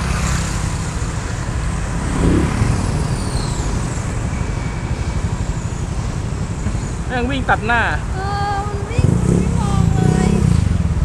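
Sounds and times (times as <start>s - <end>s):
passing cars and motorcycles: 0.0s - 11.0s.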